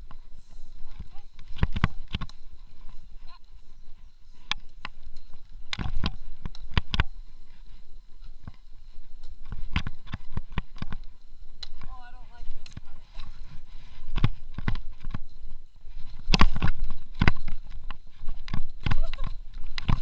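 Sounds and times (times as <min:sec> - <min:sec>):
bike knocking and rattling: 0:00.0 - 0:20.0.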